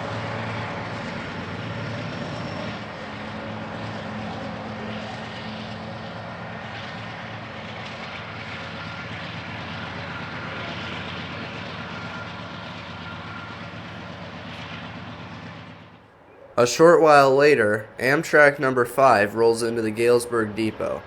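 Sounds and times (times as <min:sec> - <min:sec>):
diesel locomotive engine hum: 0:00.0 - 0:21.0
train rolling rumble: 0:00.0 - 0:21.0.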